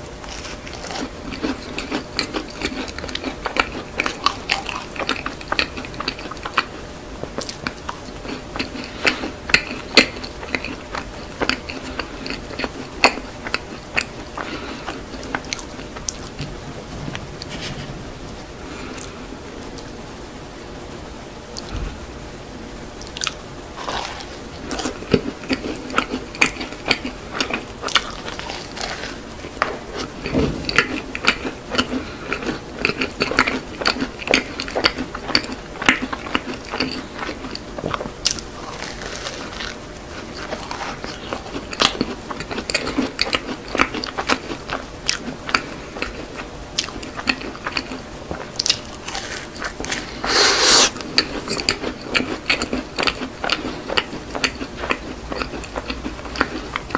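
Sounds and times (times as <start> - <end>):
crunchy chewing: 0.0 - 20.0, 23.0 - 56.9.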